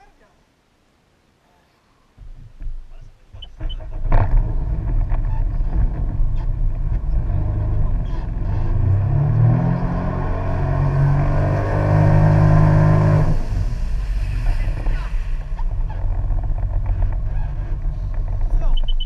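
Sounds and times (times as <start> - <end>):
engine speeding up: 3.6 - 19.0.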